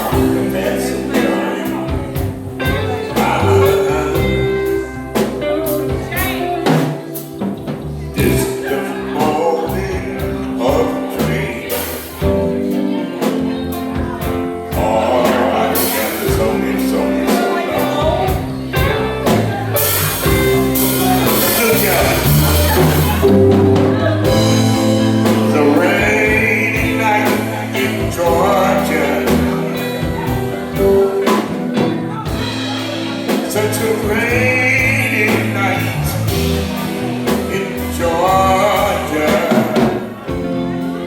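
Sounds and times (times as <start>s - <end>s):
drum kit hits: 0.0s - 12.6s, 13.2s - 40.5s
live band playing soul ballad: 0.0s - 41.0s.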